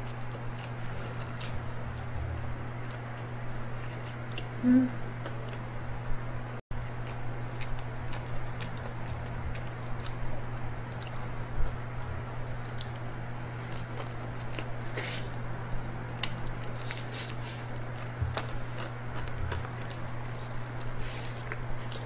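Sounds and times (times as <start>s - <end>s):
chewing and biting fried chicken: 0.0s - 4.6s, 5.2s - 22.0s
steady low hum: 0.0s - 22.0s.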